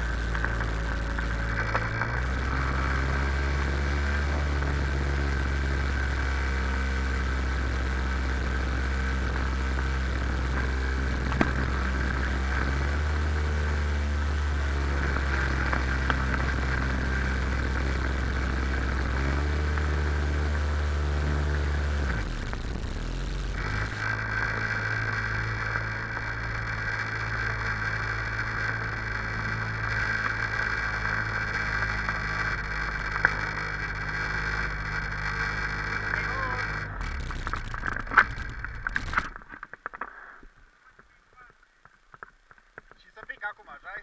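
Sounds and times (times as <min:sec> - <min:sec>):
jet ski engine running: 0:00.0 - 0:39.4.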